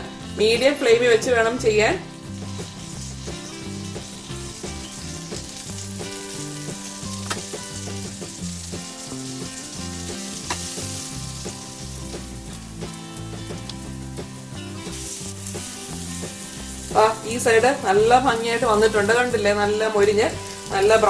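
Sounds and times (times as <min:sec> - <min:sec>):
bread frying in butter sizzling: 0:01.2 - 0:21.0.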